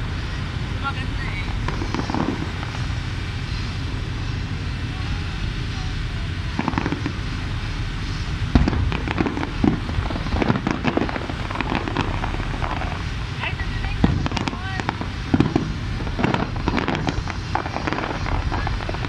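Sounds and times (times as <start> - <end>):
fireworks bangs and crackles: 0.0 - 19.0
steady low rumble: 0.0 - 19.0.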